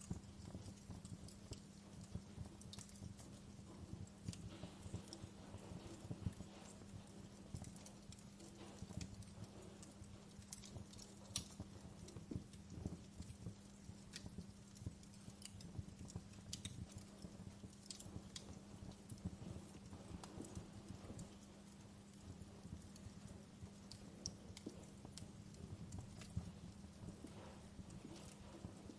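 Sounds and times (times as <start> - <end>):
faint low hum: 0.0 - 28.9
wood fire crackling: 0.0 - 28.9.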